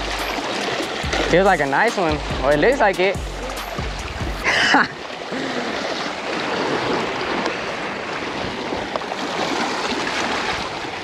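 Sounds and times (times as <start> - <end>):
waves washing against rocks: 0.0 - 11.0.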